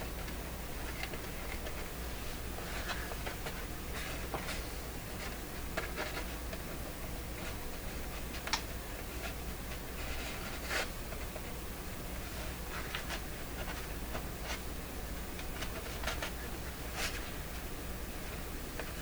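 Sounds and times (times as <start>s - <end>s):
soft scratching on paper: 0.0s - 19.0s.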